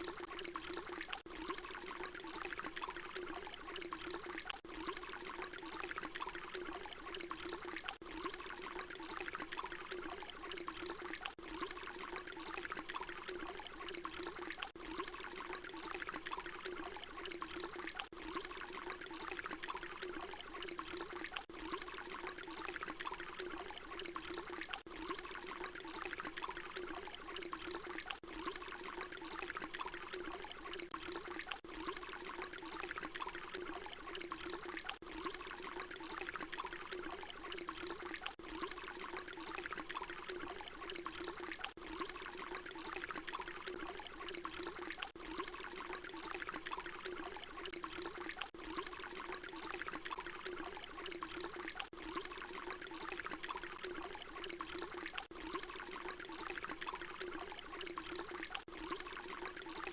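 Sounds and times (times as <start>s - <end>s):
water pouring: 0.0s - 59.9s.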